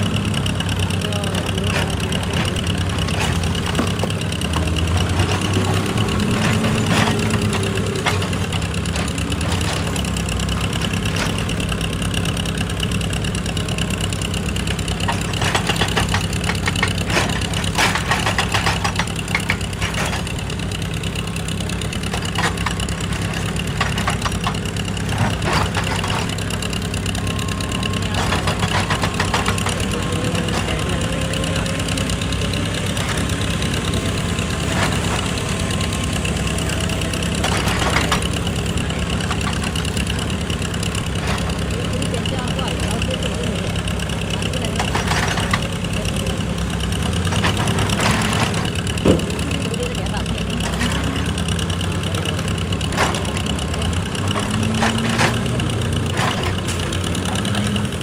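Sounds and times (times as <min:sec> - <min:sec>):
sharp knocking and clattering: 0:00.0 - 0:12.7, 0:13.3 - 0:58.0
excavator engine running: 0:00.0 - 0:58.0.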